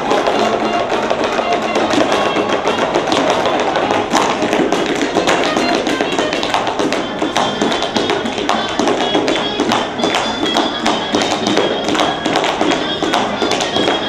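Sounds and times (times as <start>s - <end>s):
background music: 0.0s - 14.0s
tap shoes on wooden boards: 0.0s - 14.0s.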